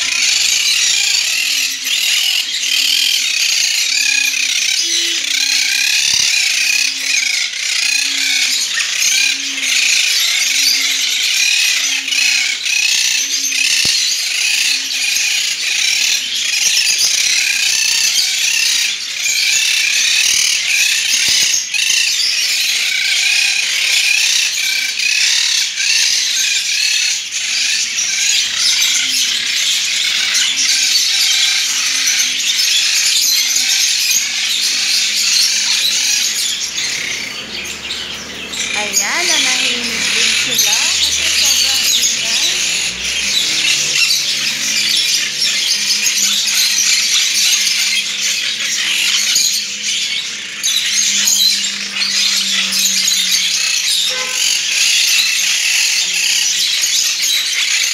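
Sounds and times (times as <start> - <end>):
lovebirds chattering: 0.0 - 57.9.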